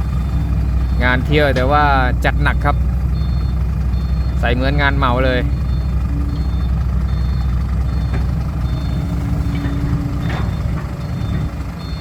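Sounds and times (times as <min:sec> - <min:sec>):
diesel truck engine rumbling: 0:00.0 - 0:12.0
reversing alarm beeping: 0:00.0 - 0:12.0.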